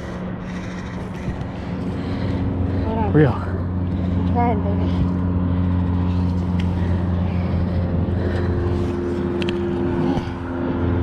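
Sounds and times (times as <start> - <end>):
engine droning hum: 0.0 - 11.0.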